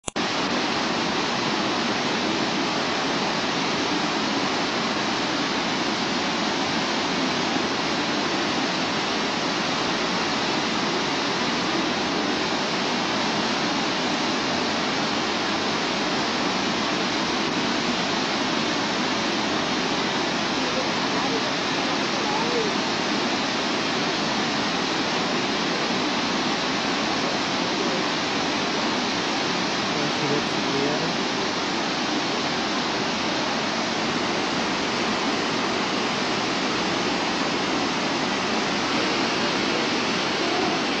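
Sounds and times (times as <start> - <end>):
steady rushing noise: 0.1 - 41.0.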